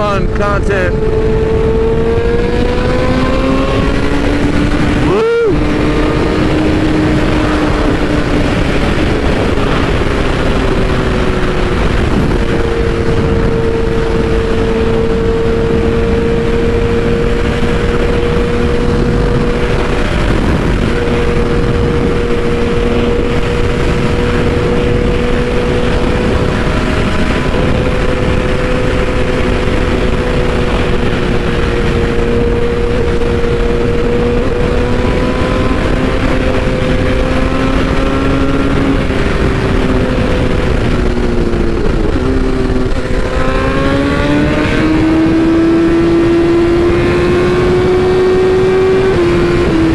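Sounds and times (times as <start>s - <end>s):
motorcycle engine cruising: 0.0s - 49.9s
wind rushing over microphone: 0.0s - 49.9s.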